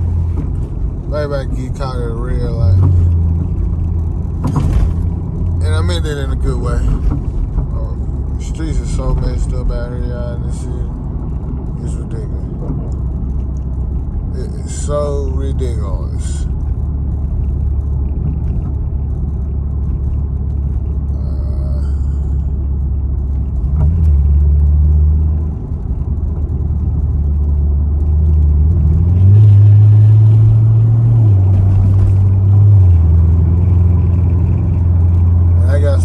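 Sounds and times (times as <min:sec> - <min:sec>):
loud low car exhaust drone: 0:00.0 - 0:36.0.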